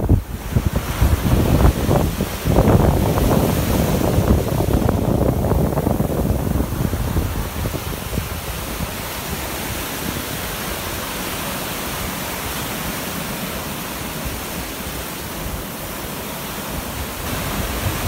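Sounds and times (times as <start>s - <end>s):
surf breaking on beach: 0.0s - 18.0s.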